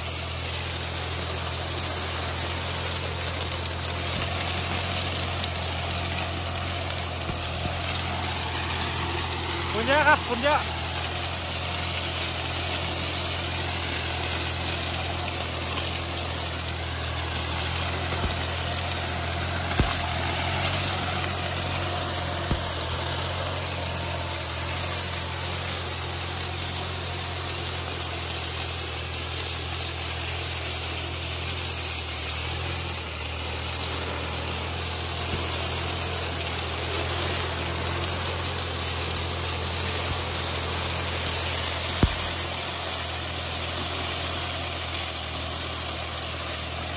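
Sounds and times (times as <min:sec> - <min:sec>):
mulcher shredding with hiss: 0:00.0 - 0:46.9
tractor diesel engine running: 0:00.0 - 0:46.9.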